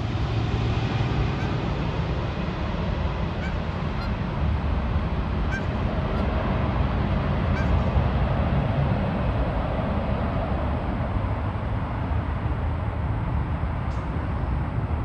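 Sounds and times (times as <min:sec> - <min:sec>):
jet engines low rumble: 0:00.0 - 0:15.0.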